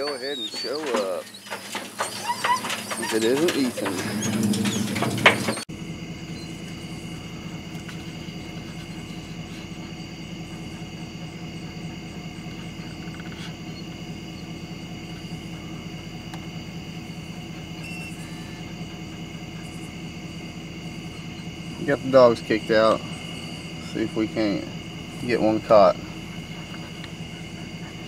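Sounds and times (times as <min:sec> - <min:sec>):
crickets chirping: 0:00.0 - 0:28.0
low even hum: 0:04.1 - 0:28.0.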